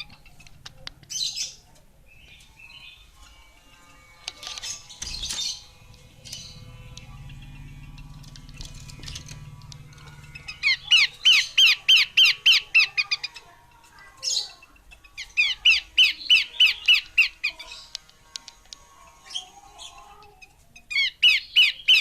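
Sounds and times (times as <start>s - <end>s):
bird calling sharp slurred notes: 2.2s - 22.0s.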